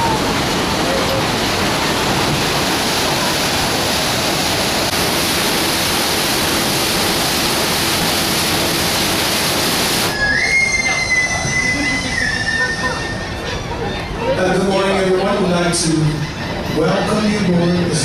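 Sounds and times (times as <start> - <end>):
paddlewheel churning water: 0.0 - 18.0.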